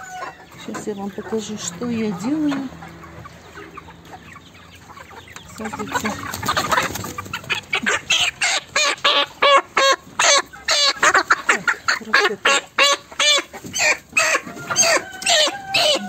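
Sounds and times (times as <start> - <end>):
young chickens squawking: 0.0 - 16.0.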